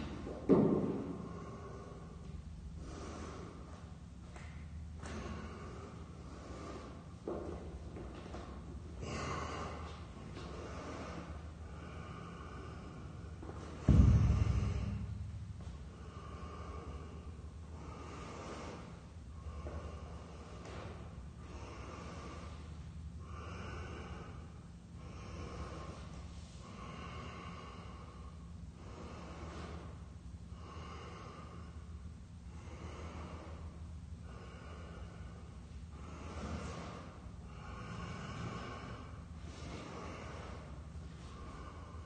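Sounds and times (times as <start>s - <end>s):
low steady hum: 0.0s - 42.0s
man breathing heavily through nose: 0.9s - 42.0s.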